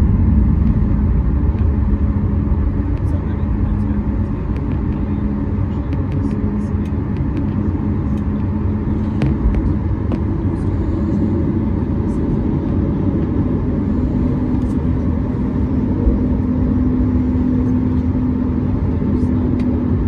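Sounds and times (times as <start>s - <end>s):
airliner taxiing rumble: 0.0s - 20.0s
jet engine hum: 0.0s - 20.0s.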